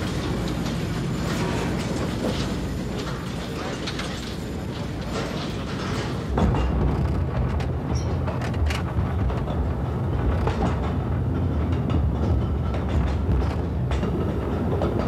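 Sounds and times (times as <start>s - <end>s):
clanks and rattles: 0.0s - 15.0s
train rumbling on rails: 0.0s - 15.0s.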